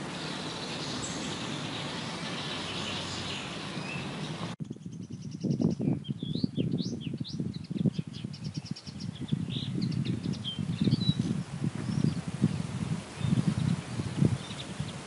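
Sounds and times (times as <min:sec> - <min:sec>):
gusty wind: 0:00.0 - 0:15.0
songbirds singing: 0:00.0 - 0:15.0.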